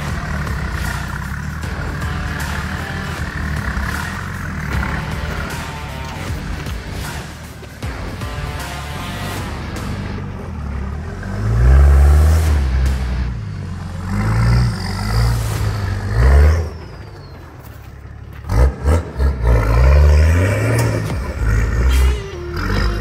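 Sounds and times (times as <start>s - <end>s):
engine revving: 0.0s - 23.0s.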